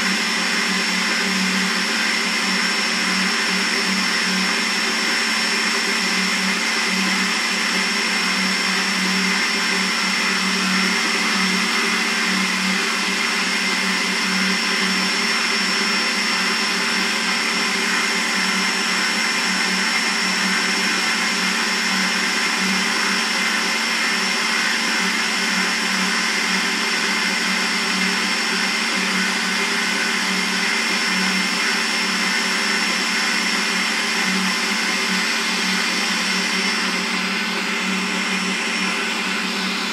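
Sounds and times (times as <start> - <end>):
stand mixer motor humming: 0.0 - 39.9.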